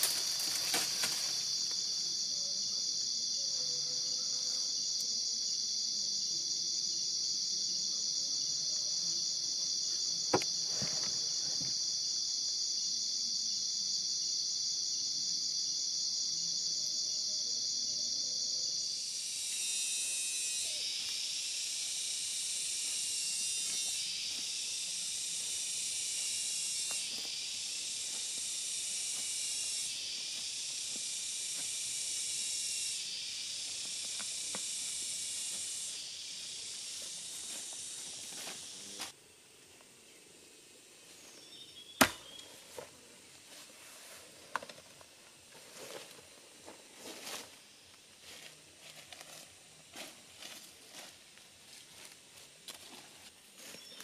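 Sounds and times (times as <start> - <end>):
cicadas hissing: 0.0 - 54.0
night insects chorus: 0.0 - 54.0.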